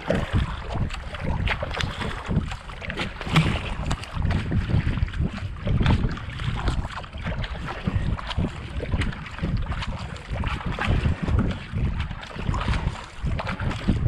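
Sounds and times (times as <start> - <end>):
paddle splashing in water: 0.0 - 14.0
wind on microphone: 0.0 - 14.0.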